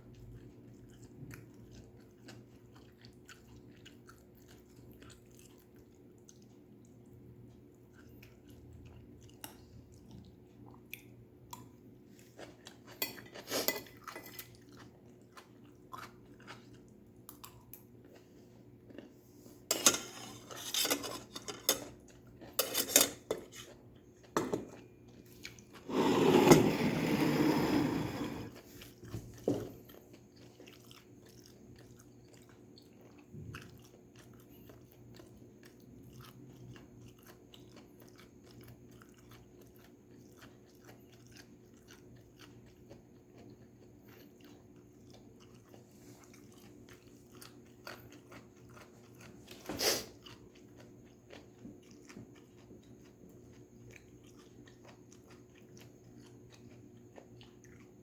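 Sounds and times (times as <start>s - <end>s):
chewing and crunching vegetables: 0.0s - 26.0s, 28.5s - 58.0s.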